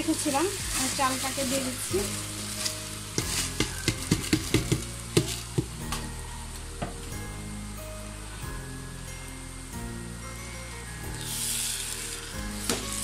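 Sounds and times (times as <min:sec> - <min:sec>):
rice sizzling in hot oil: 0:00.0 - 0:13.0.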